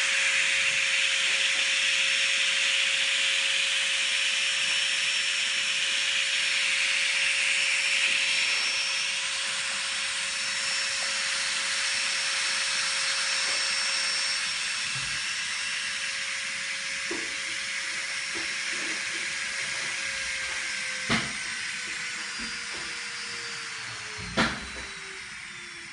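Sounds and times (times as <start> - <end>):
electric nail drill whining: 0.0 - 25.9.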